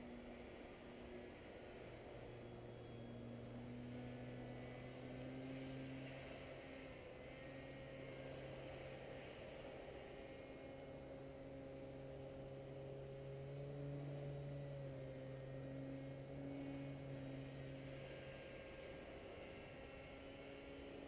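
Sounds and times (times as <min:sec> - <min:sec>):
distant paramotor engine droning: 0:00.0 - 0:21.0.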